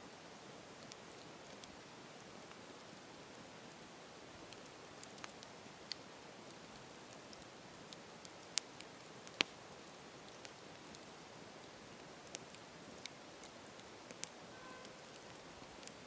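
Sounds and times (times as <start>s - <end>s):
campfire hissing and crackling: 0.0s - 16.0s
burning wood popping: 0.7s - 16.0s.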